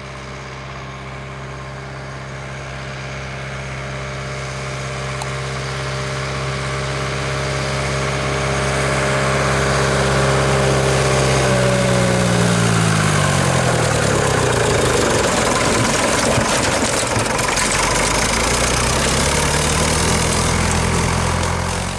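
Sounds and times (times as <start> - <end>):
tractor engine passing by: 0.0 - 21.9.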